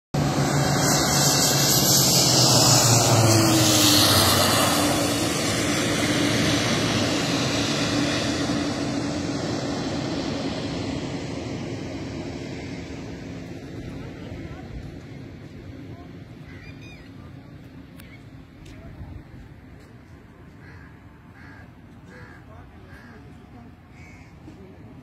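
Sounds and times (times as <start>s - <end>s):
airplane engine landing: 0.2s - 25.0s.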